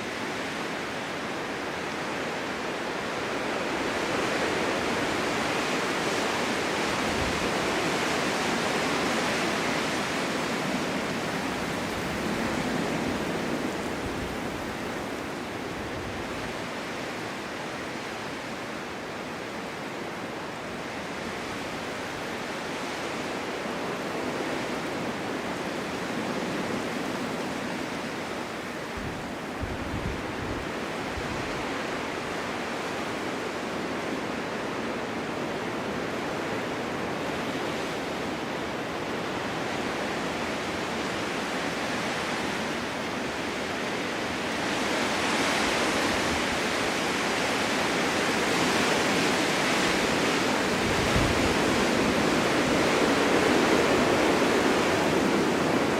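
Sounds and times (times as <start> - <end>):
wind rushing through forest: 0.0 - 55.9.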